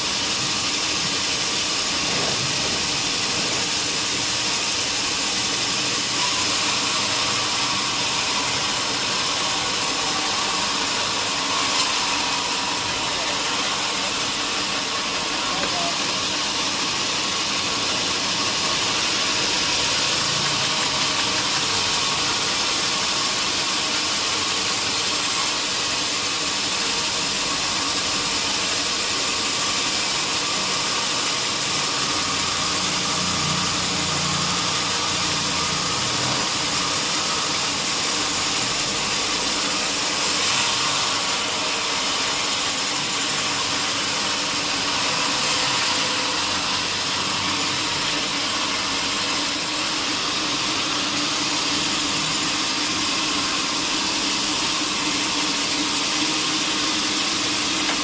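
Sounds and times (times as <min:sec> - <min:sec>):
sawmill machinery hiss: 0:00.0 - 0:58.0.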